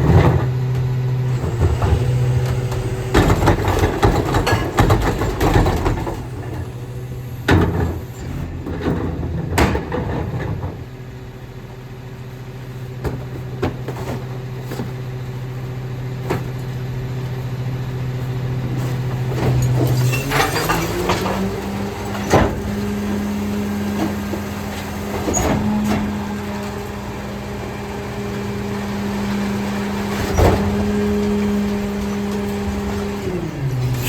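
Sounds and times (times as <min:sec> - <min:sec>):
diesel truck engine running: 0:00.0 - 0:34.0.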